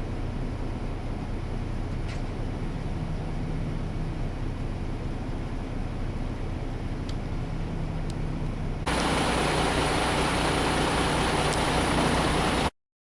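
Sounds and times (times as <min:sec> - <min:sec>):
road noise: 0:00.0 - 0:12.7
truck engine running: 0:00.0 - 0:12.7.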